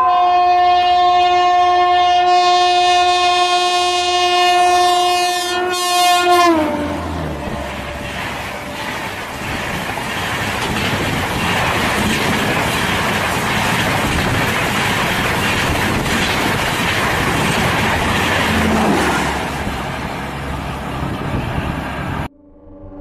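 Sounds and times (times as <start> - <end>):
passenger train passing at speed: 0.0 - 23.0.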